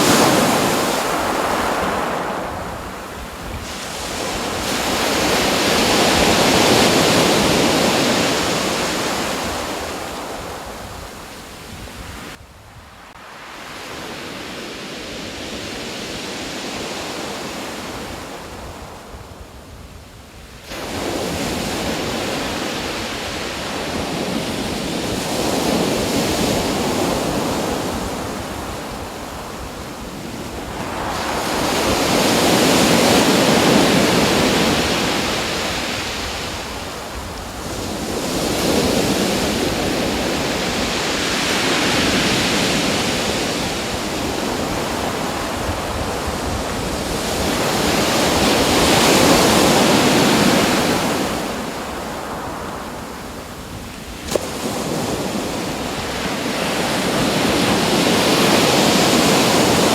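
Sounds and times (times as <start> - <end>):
ocean waves washing: 0.0 - 19.1, 20.6 - 59.9.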